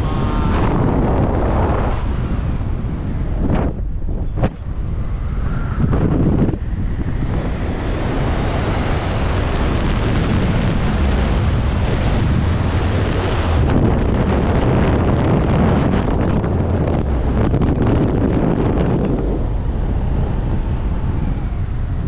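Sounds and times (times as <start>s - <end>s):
aircraft motor rumble: 0.0s - 22.0s
wind rushing over camera: 0.0s - 22.0s.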